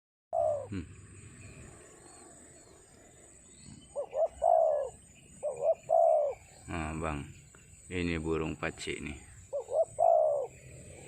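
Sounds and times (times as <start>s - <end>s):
dove cooing: 0.3s - 7.4s, 8.9s - 11.0s.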